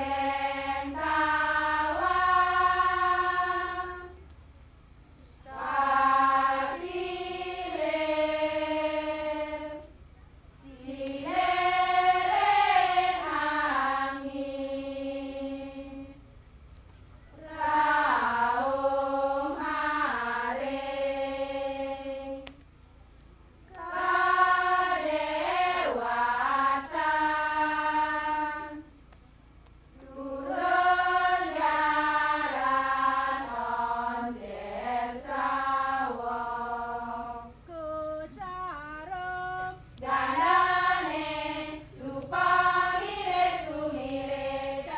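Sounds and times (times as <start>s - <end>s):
chorus singing in unison: 0.0s - 4.3s, 5.3s - 9.9s, 10.6s - 16.3s, 17.4s - 22.6s, 23.6s - 29.0s, 29.6s - 44.9s.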